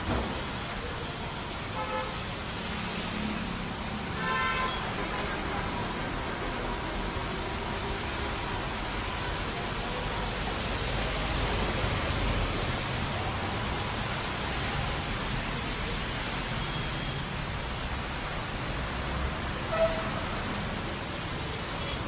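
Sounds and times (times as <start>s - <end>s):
heavy rain on road: 0.0s - 22.0s
traffic rumble: 0.0s - 22.0s.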